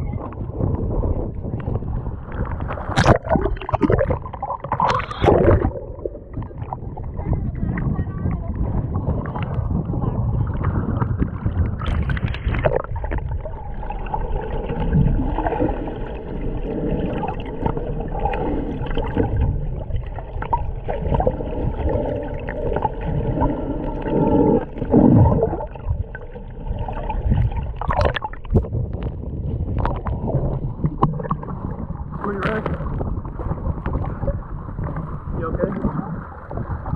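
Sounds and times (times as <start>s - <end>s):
underwater gurgling and sloshing: 0.0s - 36.9s.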